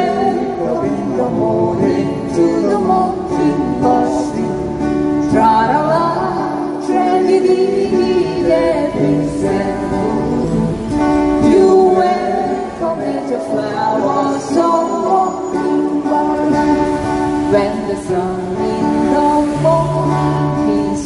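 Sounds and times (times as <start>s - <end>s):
acoustic guitar music: 0.0s - 21.0s
person singing: 0.0s - 21.0s.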